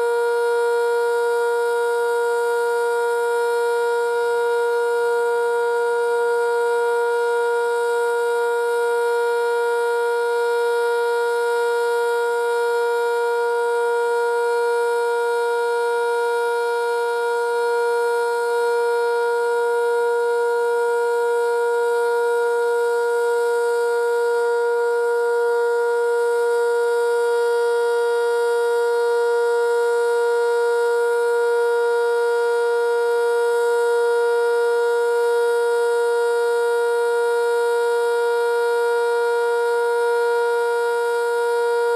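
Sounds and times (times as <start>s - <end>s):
warning siren steady tone: 0.0s - 41.9s.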